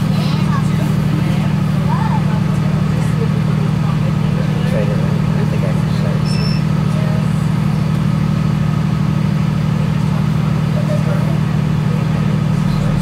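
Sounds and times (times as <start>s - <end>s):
air-conditioning hum: 0.0s - 13.0s
diesel engine idling: 0.0s - 13.0s.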